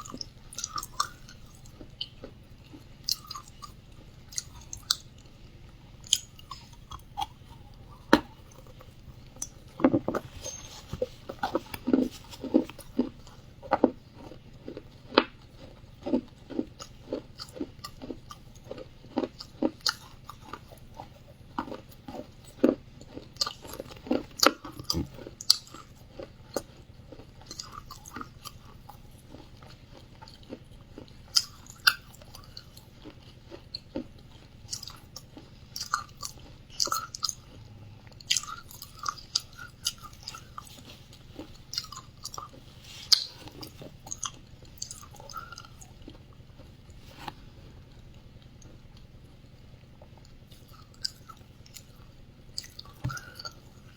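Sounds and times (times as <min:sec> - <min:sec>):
chewing crunches: 0:00.0 - 0:53.9.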